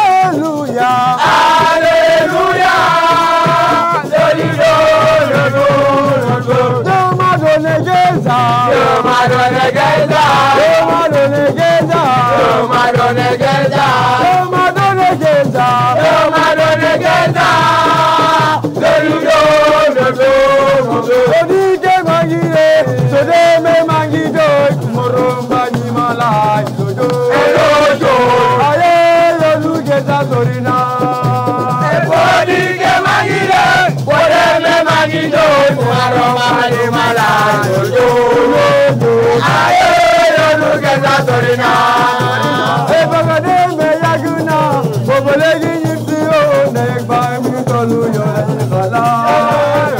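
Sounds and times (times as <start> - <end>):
fast percussion: 0.0 - 49.9
rattle shaking: 0.0 - 49.9
voices singing a chant: 0.0 - 49.9.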